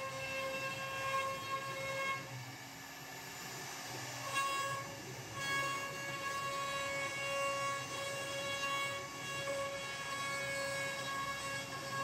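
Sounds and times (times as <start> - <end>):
cnc router spindle whining: 0.0 - 12.0.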